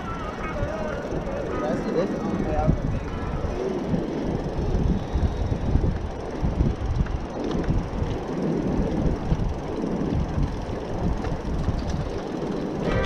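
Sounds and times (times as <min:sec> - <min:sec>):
bicycle tyres rolling on wooden deck: 0:00.0 - 0:13.0.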